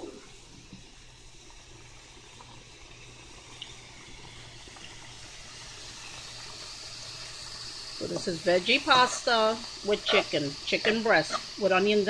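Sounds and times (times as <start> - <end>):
food sizzling in frying pan: 0.0 - 12.0
water boiling and bubbling: 0.0 - 12.0.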